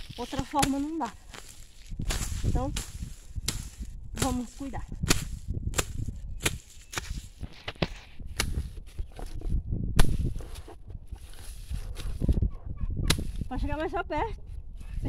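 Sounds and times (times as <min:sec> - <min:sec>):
hand hoe chopping into soil: 0:00.0 - 0:12.4, 0:13.1 - 0:13.5.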